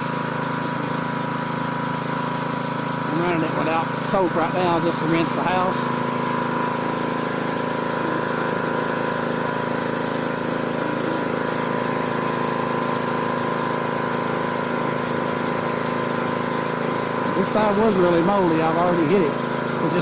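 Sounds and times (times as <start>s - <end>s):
pressure washer engine running: 0.0s - 20.0s
water spraying: 0.0s - 20.0s.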